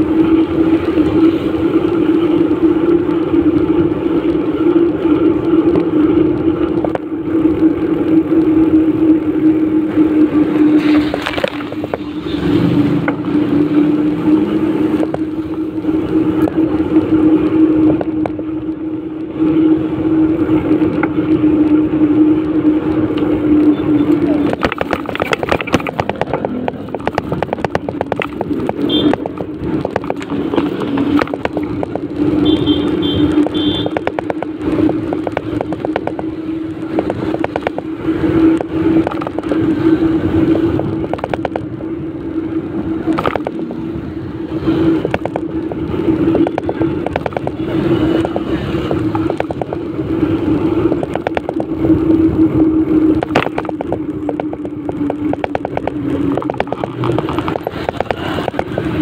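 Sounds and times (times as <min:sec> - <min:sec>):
two-wheeler riding on wet street: 0:00.0 - 0:59.0.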